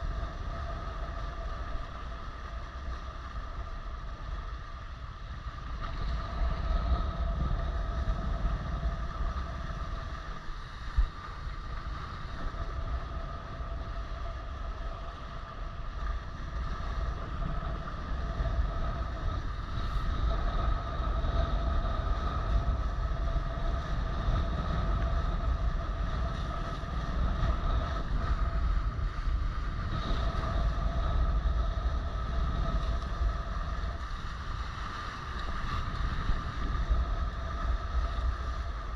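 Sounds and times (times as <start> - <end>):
steady high hum: 0.0 - 38.9
wind buffeting microphone: 0.0 - 38.9.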